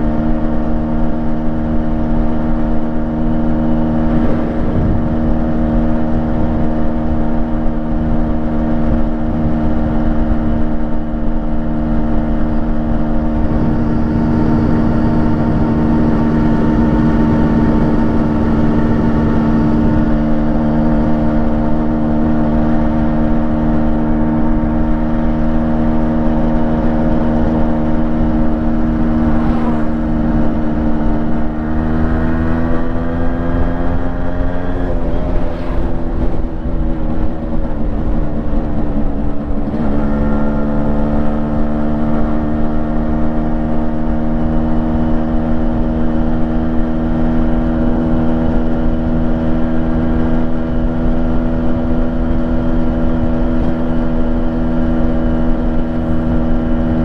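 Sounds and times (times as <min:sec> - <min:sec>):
two-stroke motorcycle engine running: 0:00.0 - 0:57.0.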